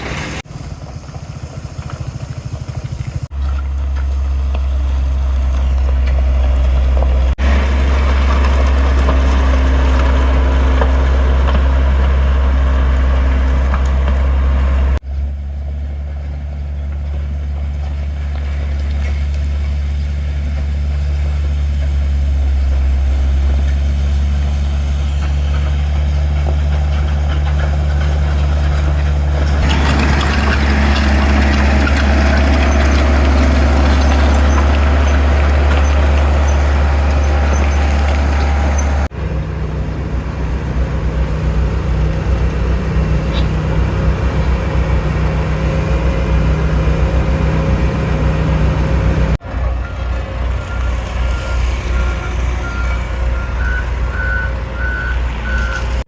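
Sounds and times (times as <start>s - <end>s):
heavy machinery engines humming: 0.0s - 56.0s.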